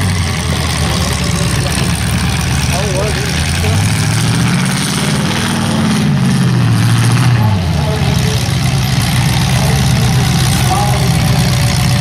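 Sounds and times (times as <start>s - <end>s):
car engine revving: 0.0s - 12.0s
car engines idling: 0.0s - 12.0s.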